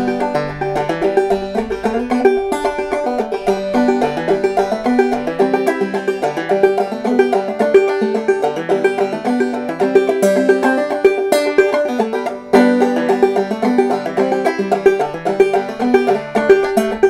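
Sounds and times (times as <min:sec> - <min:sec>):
banjo played clawhammer style: 0:00.0 - 0:17.0.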